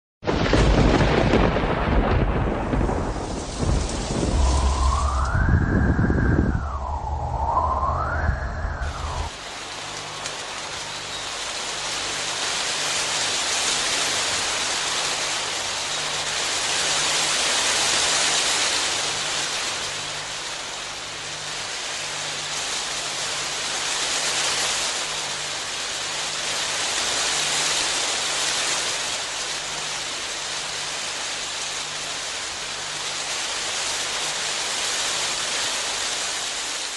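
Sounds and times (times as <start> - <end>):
rain falling: 0.2 - 36.9.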